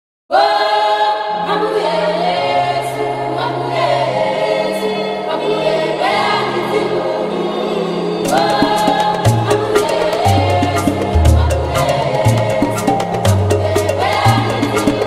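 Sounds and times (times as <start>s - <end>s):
choir singing held chords: 0.3s - 15.0s.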